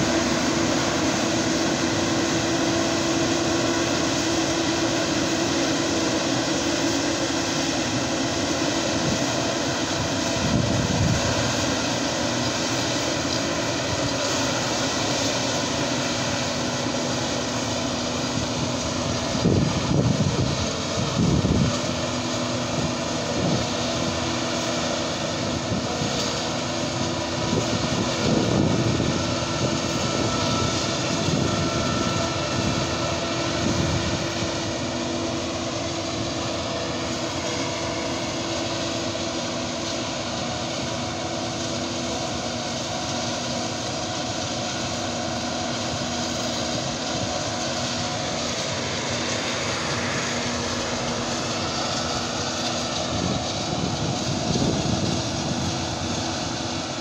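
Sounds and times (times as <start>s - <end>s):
forage harvester engine drone: 0.0s - 57.0s.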